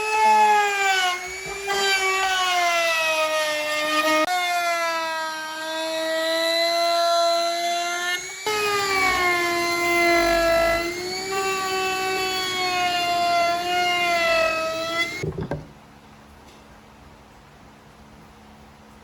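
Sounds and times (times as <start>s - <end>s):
electric power tool motor whining: 0.0s - 15.7s.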